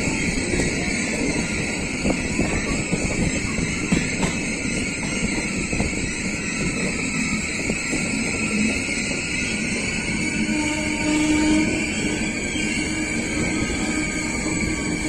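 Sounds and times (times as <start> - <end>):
train rumbling and rattling: 0.0 - 15.0
wheels clacking on rails: 0.0 - 15.0.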